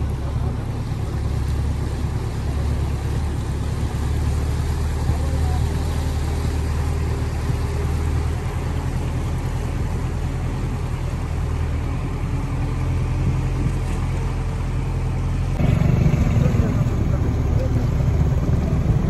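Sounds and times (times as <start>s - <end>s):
vehicle engine running: 0.0s - 19.0s
water rushing and splashing: 0.0s - 19.0s.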